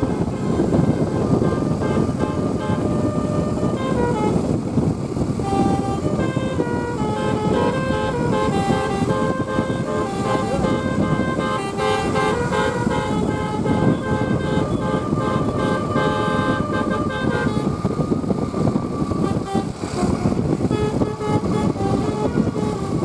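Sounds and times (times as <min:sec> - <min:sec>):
multi-tone bus horn melody: 0:00.0 - 0:23.0
vehicle noise: 0:00.0 - 0:23.0.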